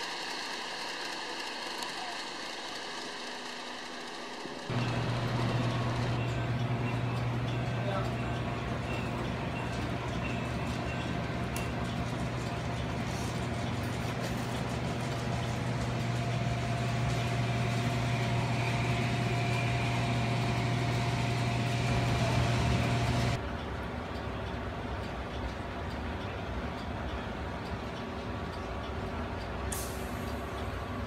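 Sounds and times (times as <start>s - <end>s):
model trains humming: 0.0s - 31.0s.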